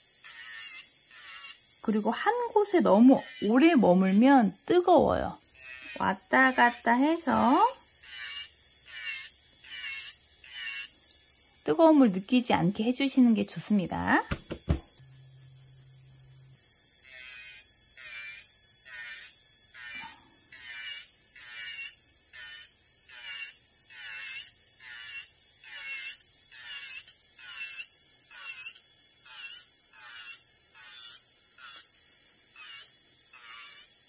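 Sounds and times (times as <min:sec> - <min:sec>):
drill bit grinding fingernail: 0:00.0 - 0:11.2, 0:15.0 - 0:34.0
nail drill whining: 0:00.0 - 0:12.9, 0:13.8 - 0:34.0.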